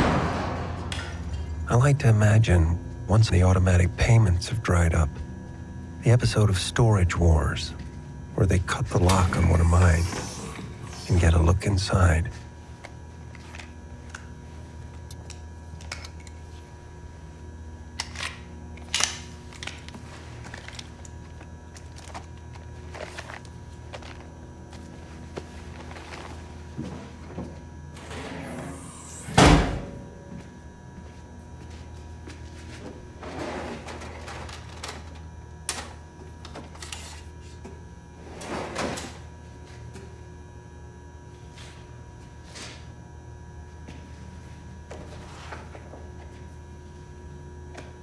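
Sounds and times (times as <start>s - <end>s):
low hum: 0.0s - 48.0s.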